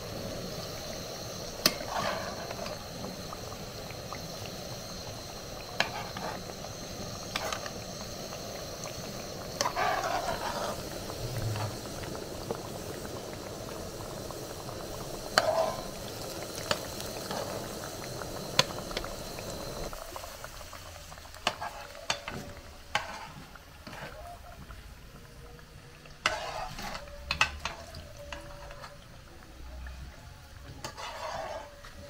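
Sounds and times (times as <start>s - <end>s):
plantain frying in hot oil: 0.0s - 32.0s.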